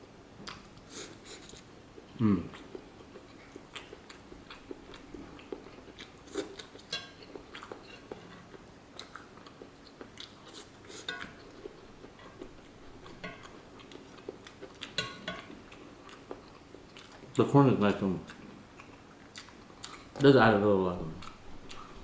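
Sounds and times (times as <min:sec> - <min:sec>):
chewing food: 0:00.4 - 0:17.4, 0:18.2 - 0:20.2, 0:21.2 - 0:22.0.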